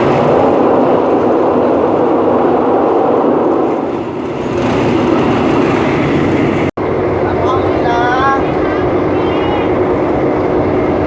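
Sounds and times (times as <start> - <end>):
train running on tracks: 0.0 - 11.0.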